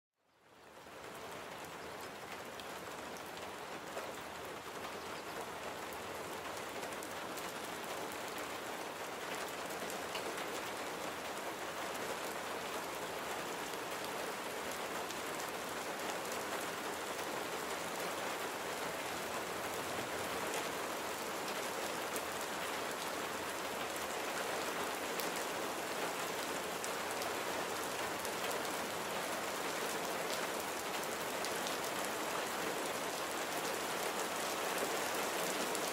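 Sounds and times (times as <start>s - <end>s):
rain falling: 0.3s - 35.9s.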